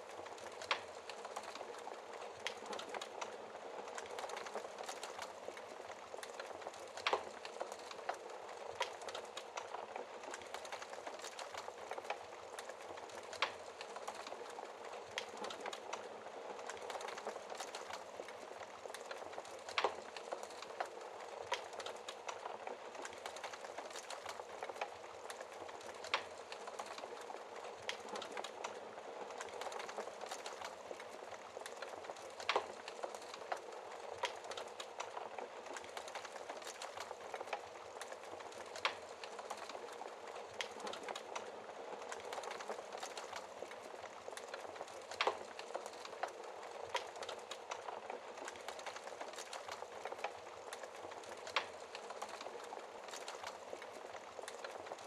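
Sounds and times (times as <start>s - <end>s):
log fire crackling: 0.0s - 55.0s
rain hiss: 0.0s - 55.0s.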